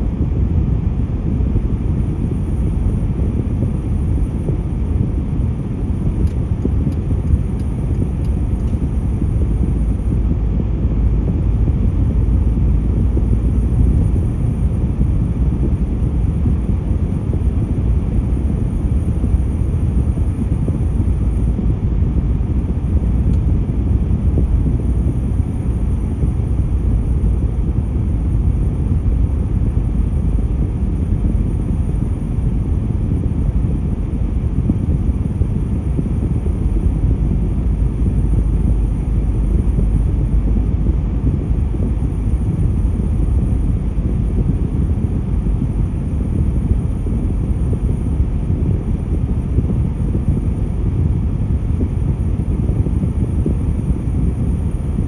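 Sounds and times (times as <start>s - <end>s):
car engine: 0.0s - 50.8s
road and tyre noise: 0.0s - 55.0s.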